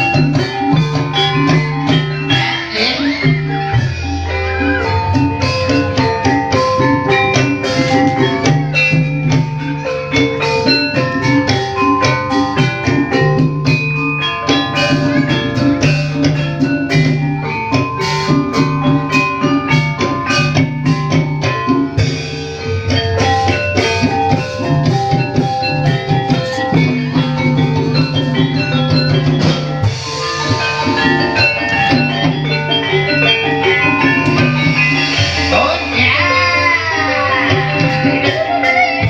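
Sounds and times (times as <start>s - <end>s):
gamelan music: 0.0s - 39.0s.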